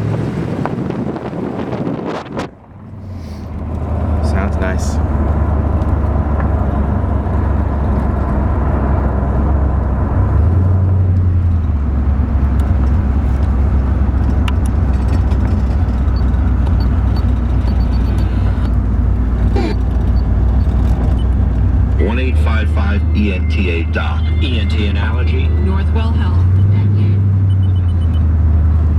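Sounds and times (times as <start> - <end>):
car engine drone from inside: 0.0 - 28.9
road noise: 0.0 - 28.9.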